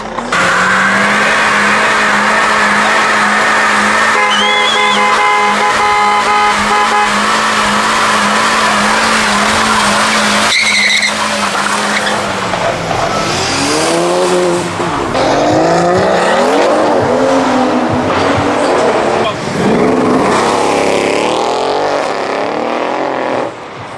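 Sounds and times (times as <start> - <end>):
tyres squealing: 0.0 - 23.6
car engine revving: 0.0 - 23.9.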